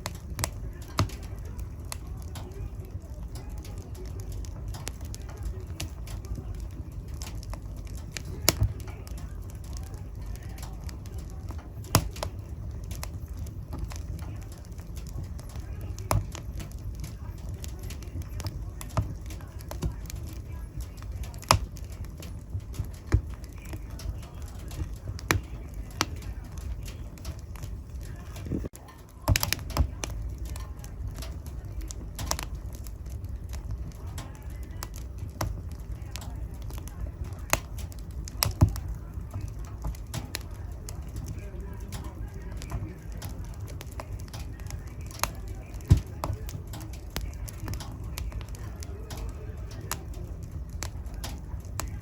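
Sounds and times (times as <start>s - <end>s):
sharp fire pops: 0.0s - 52.0s
wood fire crackling: 0.0s - 52.0s.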